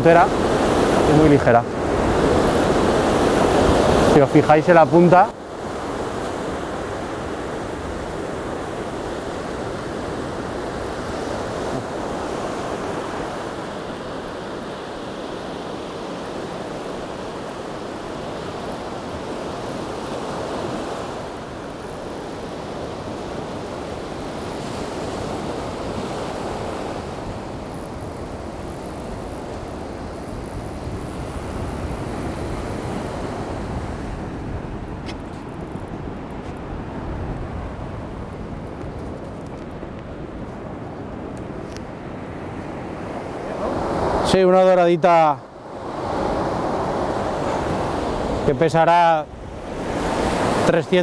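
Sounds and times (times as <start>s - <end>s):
sea surf breaking on beach: 0.0s - 51.0s.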